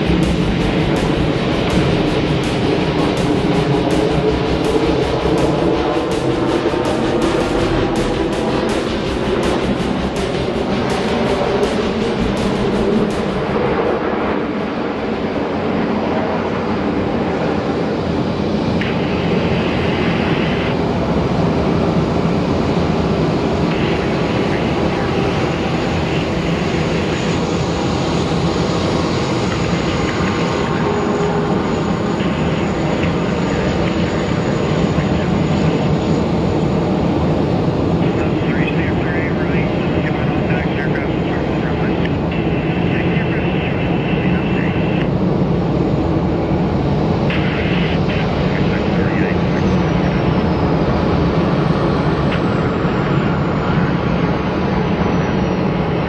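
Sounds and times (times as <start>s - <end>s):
high whine falling in pitch: 0.0s - 17.8s, 18.7s - 56.0s
jet engines running: 0.0s - 56.0s.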